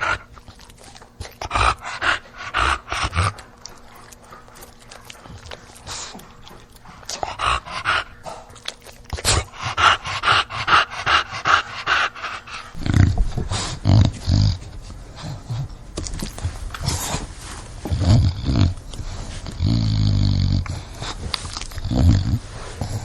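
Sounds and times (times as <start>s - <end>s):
dog grunting: 0.0s - 23.0s
dog panting: 0.0s - 23.0s.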